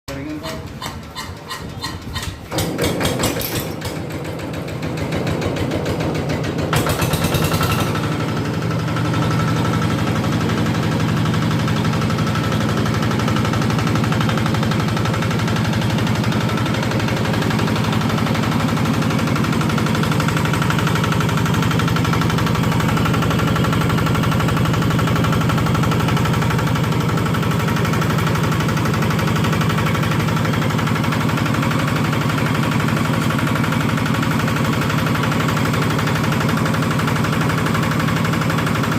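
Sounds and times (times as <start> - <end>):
compost shredder engine chugging: 0.1 - 38.9.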